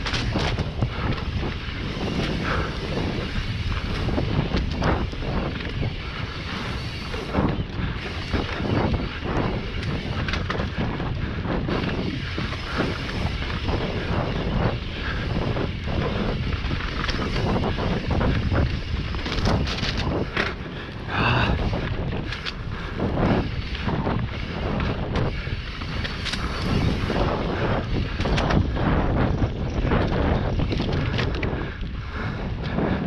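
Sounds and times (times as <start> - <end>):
bike rattling over bumps: 0.0 - 33.0
tyres running on dirt: 0.0 - 33.0
wind rushing over microphone: 0.0 - 33.0.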